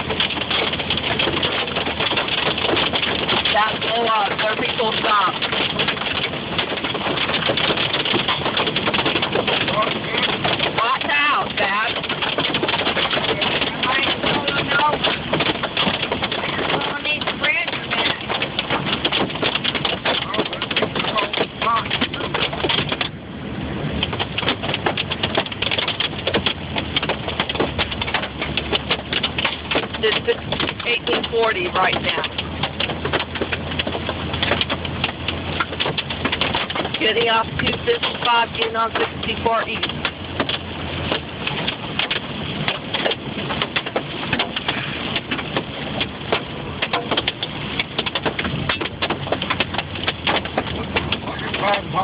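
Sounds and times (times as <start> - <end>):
car road and engine noise: 0.0 - 52.0
hail clattering on car: 0.0 - 52.0.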